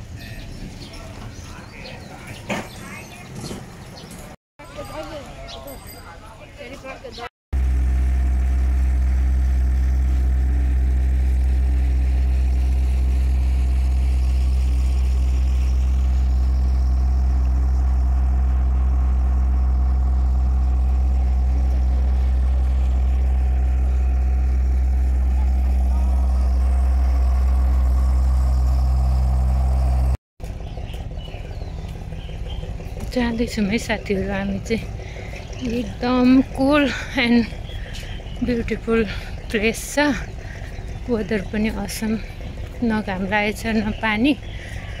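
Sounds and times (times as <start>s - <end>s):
engine idling: 7.5s - 45.0s.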